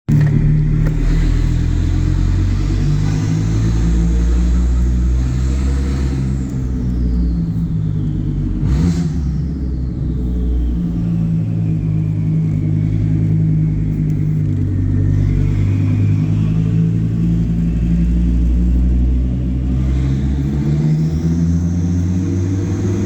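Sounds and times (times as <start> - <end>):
car engine rumbling: 0.1 - 23.0.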